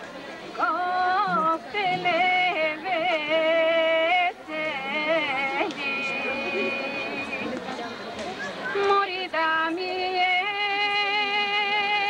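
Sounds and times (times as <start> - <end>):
woman singing folk song: 0.6 - 7.2, 8.8 - 12.0.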